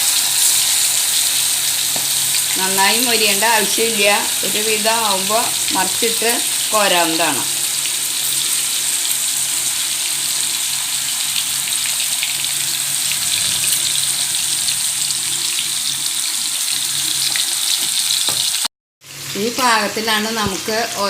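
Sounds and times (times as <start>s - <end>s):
chicken frying in hot oil: 0.0s - 21.0s.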